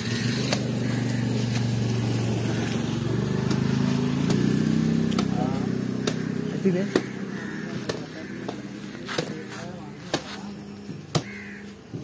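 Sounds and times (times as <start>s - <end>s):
small vehicle engine running: 0.0s - 9.6s.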